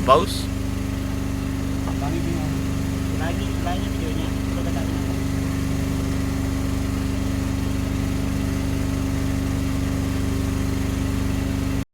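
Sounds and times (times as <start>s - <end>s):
boat engine idling: 0.0s - 11.8s.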